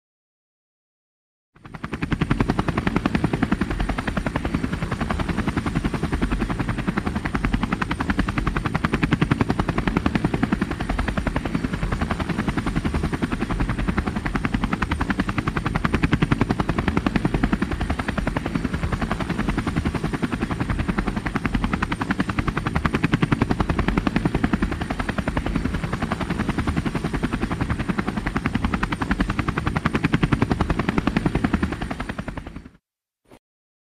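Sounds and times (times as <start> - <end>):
helicopter rotor chop: 1.6 - 32.8.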